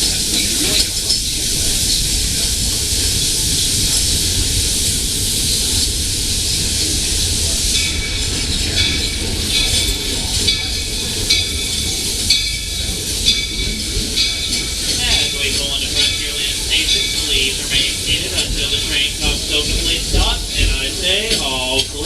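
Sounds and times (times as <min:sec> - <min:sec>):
steam hissing: 0:00.0 - 0:22.0
train rumbling: 0:00.0 - 0:22.0.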